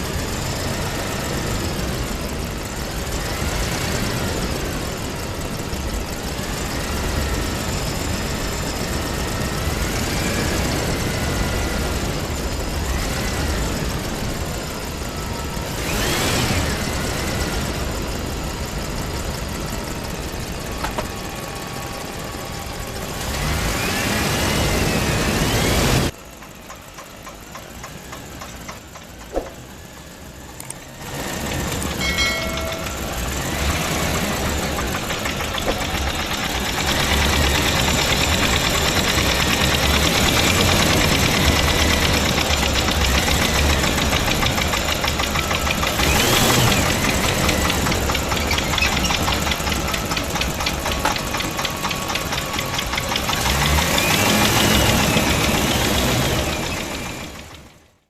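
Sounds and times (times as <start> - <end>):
small motor ticking: 0.0 - 57.9.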